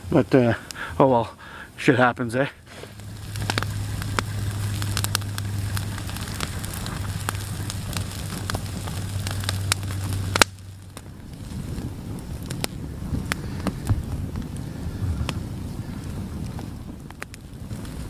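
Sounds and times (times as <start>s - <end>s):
steady low hum: 0.0s - 17.7s
campfire crackling and popping: 0.0s - 18.0s
quiet outdoor background: 0.0s - 18.0s.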